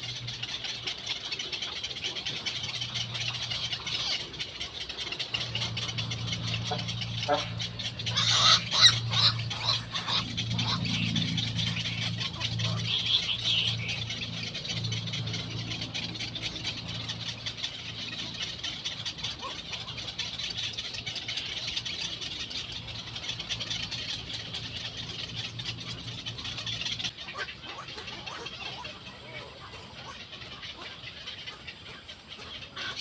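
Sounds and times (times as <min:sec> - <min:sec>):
bird chicks calling: 0:00.0 - 0:33.0
low motor-like hum: 0:00.0 - 0:33.0.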